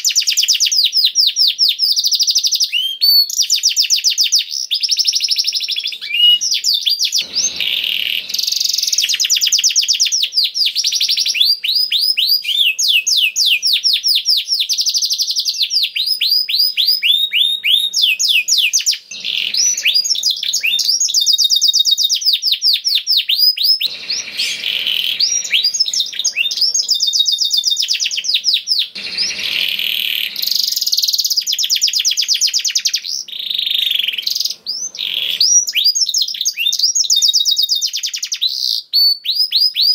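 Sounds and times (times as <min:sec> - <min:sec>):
canary singing in rapid trills: 0:00.0 - 0:39.9.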